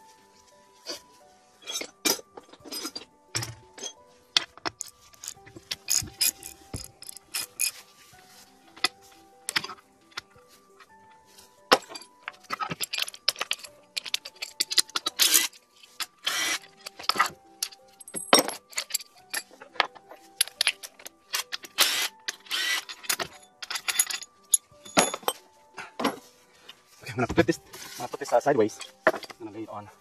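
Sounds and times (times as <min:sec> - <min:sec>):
music with held notes: 0:00.0 - 0:30.0
metal tools and bolts clinking: 0:00.8 - 0:08.0, 0:08.7 - 0:11.0, 0:11.6 - 0:26.3, 0:27.3 - 0:29.6.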